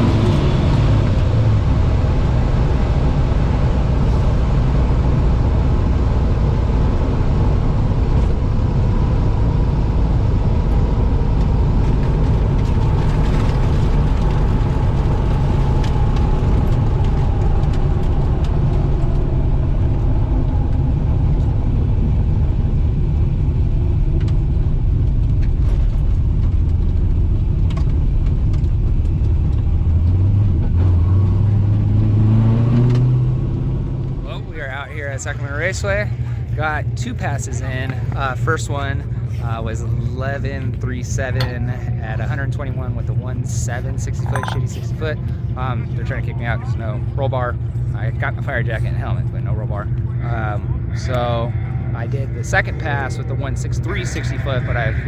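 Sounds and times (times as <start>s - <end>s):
car engine running: 0.0s - 32.0s, 33.7s - 54.6s.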